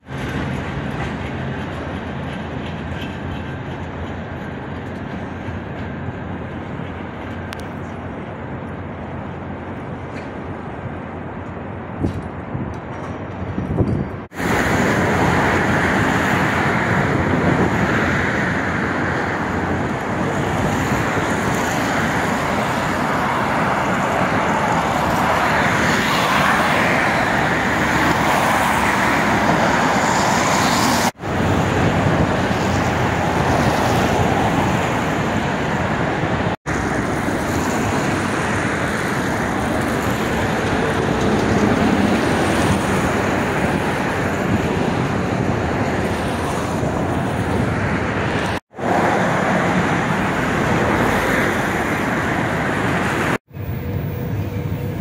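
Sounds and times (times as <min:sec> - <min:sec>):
city traffic passing cars: 0:00.0 - 0:55.0.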